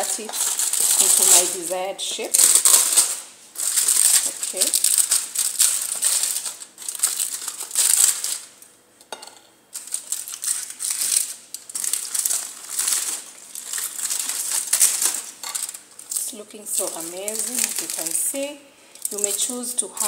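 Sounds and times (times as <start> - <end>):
aluminium foil crinkling: 0.0 - 8.8, 9.7 - 20.0.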